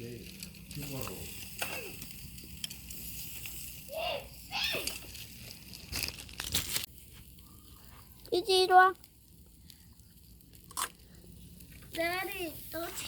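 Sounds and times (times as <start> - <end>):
campfire crackling and hissing: 0.0 - 13.0.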